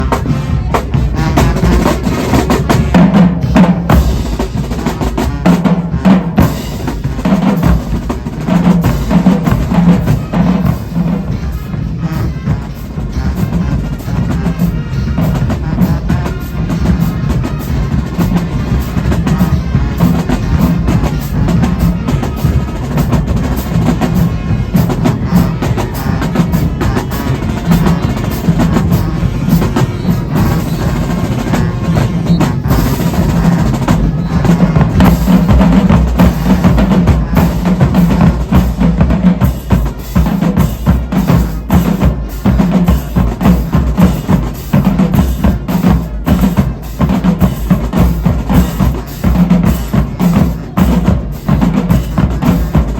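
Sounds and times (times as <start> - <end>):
bass drums: 0.0 - 52.9
snare drum strokes: 0.0 - 52.9.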